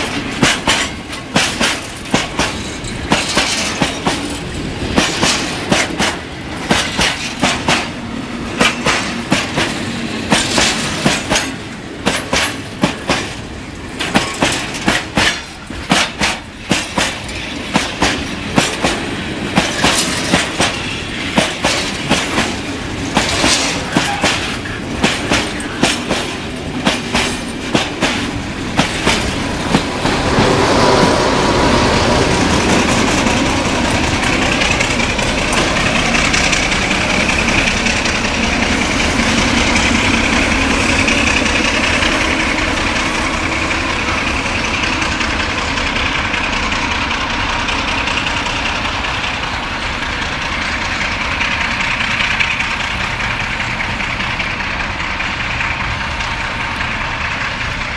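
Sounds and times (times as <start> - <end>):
diesel locomotive engine under power: 0.0 - 57.9
train wheels clacking over rail joints: 0.0 - 57.9.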